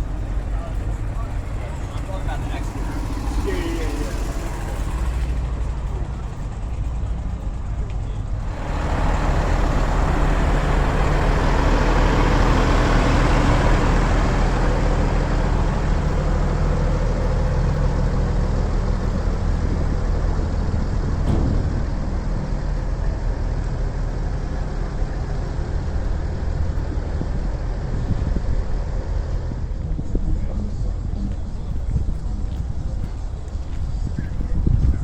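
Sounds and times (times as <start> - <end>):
truck engine humming: 0.0 - 34.4.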